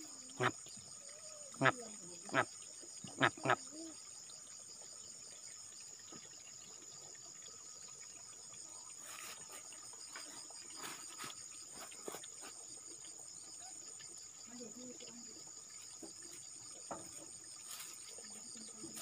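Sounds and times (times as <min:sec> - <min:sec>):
insects trilling in grass: 0:00.0 - 0:19.0.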